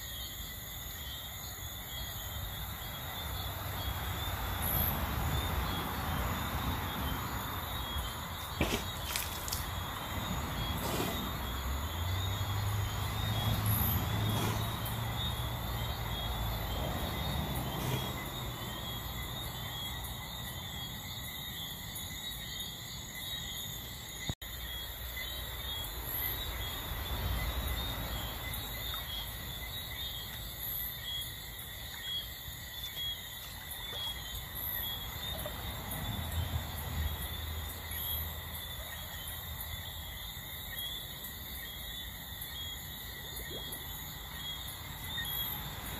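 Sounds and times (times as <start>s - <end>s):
night insects chirping: 0.0s - 45.9s.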